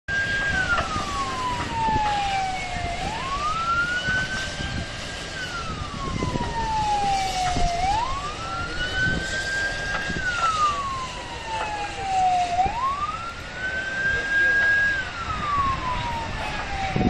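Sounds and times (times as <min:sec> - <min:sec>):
emergency siren wailing: 0:00.1 - 0:17.0.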